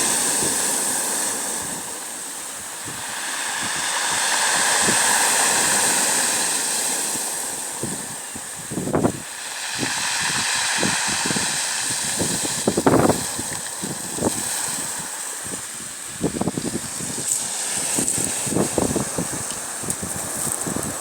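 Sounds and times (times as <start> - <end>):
water lapping at shore: 0.0 - 21.0
wind gusting against microphone: 0.0 - 21.0.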